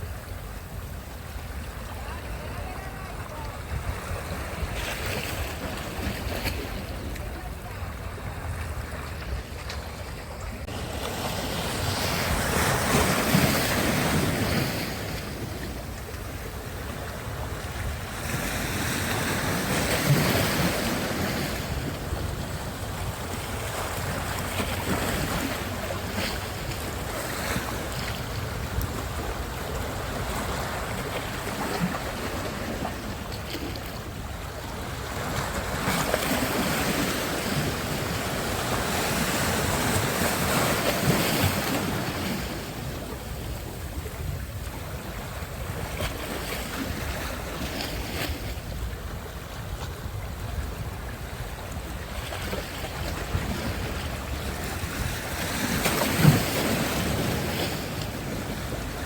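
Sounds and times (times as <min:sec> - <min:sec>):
sea surf washing ashore: 0:00.0 - 0:59.0
wind rumbling on microphone: 0:00.0 - 0:59.0.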